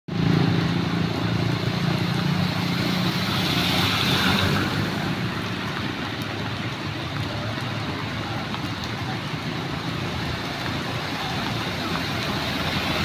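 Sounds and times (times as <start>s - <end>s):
wind: 0.1s - 13.0s
water spray from tyres: 0.2s - 13.0s.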